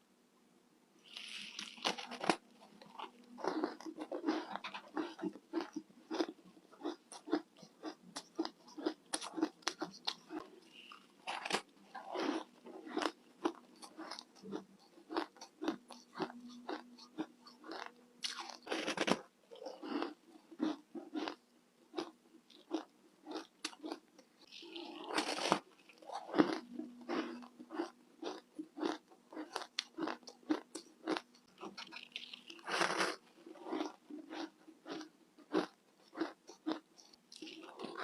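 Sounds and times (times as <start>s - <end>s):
crunching ice: 1.1s - 21.4s, 22.7s - 38.0s.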